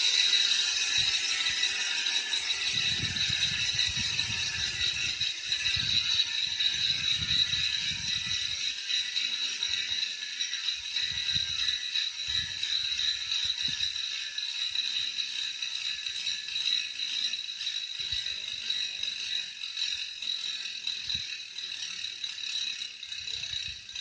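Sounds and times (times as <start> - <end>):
bicycle hub freewheel buzzing: 0.0 - 24.0.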